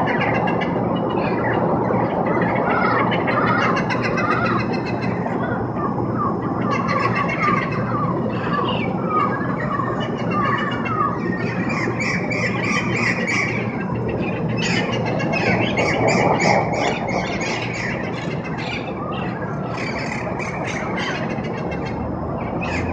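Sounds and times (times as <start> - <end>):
parrots squawking and warbling: 0.0 - 22.9.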